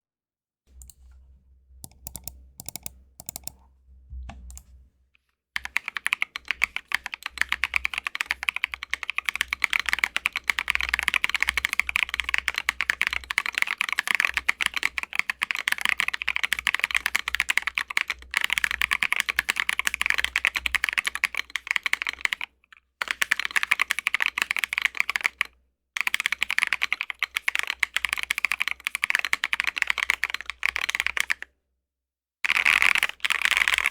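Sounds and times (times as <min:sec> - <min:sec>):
mechanical keyboard typing: 0:01.8 - 0:03.6, 0:05.6 - 0:31.4, 0:32.5 - 0:33.9.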